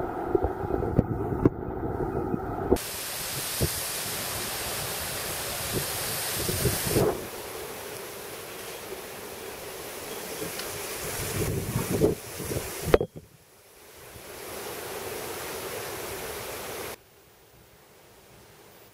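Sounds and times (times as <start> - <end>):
loud steady hiss: 2.8 - 18.9.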